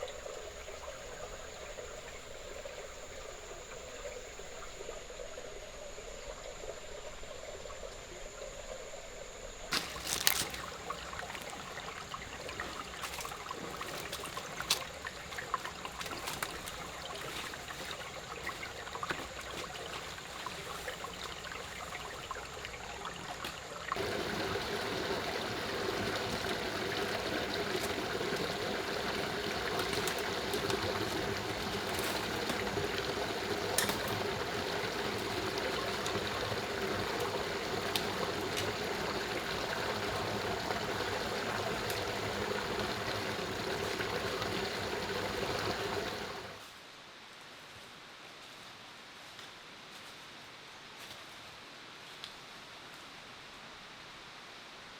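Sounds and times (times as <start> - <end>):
running water: 0.0 - 46.7.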